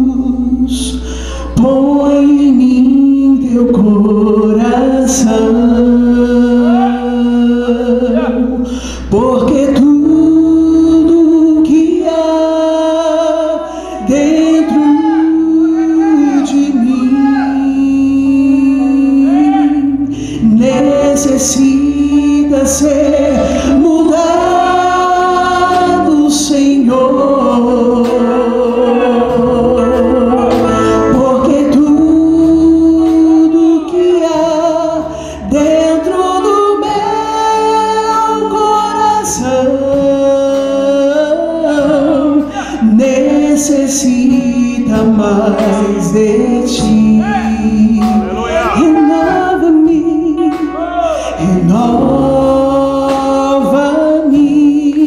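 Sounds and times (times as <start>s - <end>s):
instrumental accompaniment: 0.0s - 55.0s
voices singing gospel song: 0.0s - 55.0s.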